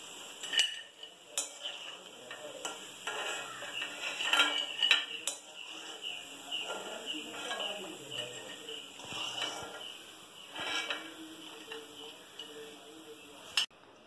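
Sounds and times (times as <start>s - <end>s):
metal spoon scraping and clinking: 0.3s - 12.8s.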